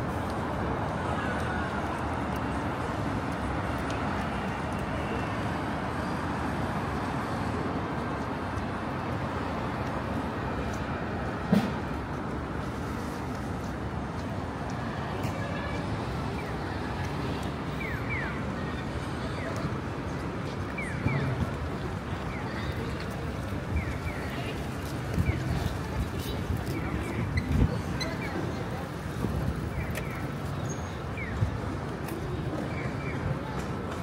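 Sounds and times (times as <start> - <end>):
street traffic hum: 0.0 - 34.0.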